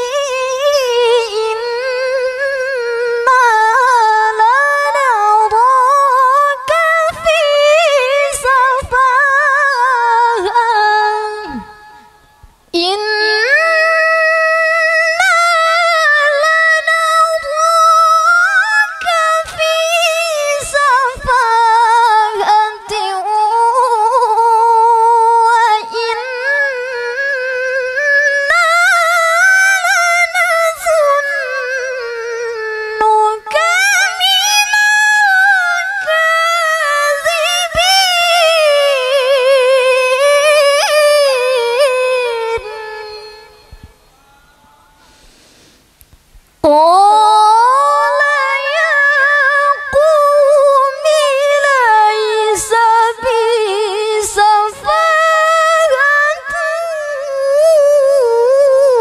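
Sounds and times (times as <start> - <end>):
woman reciting melodically: 0.0 - 44.0, 46.6 - 59.0.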